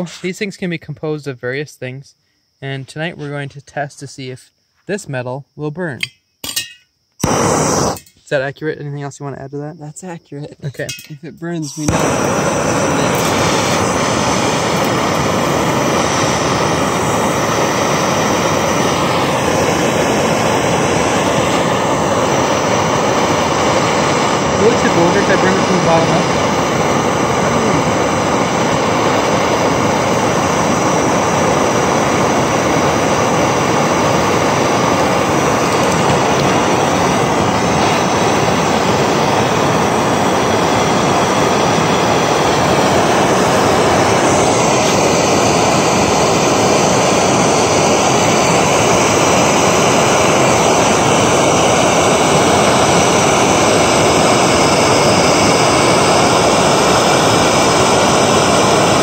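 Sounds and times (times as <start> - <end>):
gas torch burning: 6.0 - 8.4, 10.7 - 59.0.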